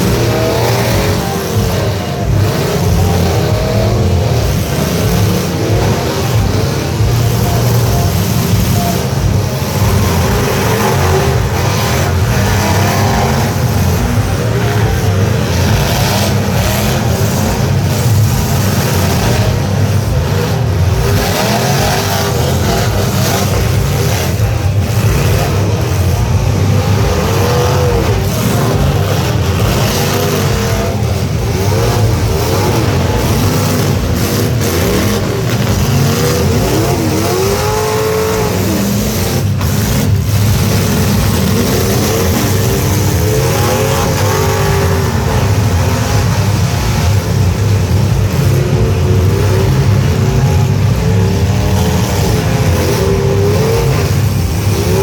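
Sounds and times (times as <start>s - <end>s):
heavy low rumble: 0.0s - 55.0s
truck engines revving: 0.0s - 55.0s.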